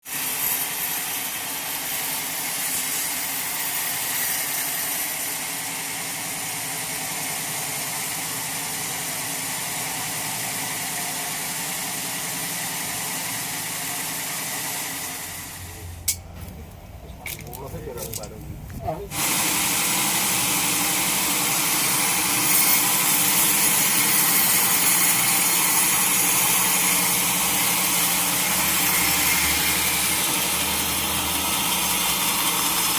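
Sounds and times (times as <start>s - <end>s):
sawmill machinery hum and hiss: 0.0s - 32.9s.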